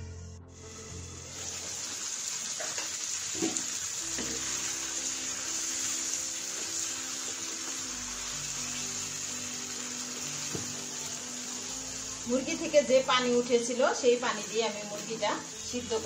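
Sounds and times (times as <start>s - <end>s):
chicken sizzling in a frying pan: 0.6s - 16.0s.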